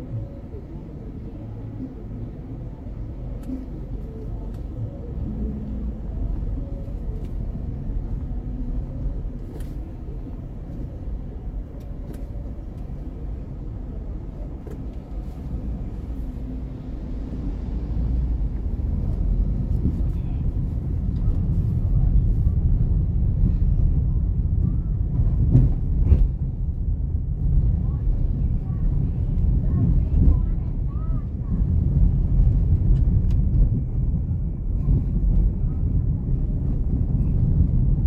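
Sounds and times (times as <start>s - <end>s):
road and tyre rumble: 0.0s - 38.0s.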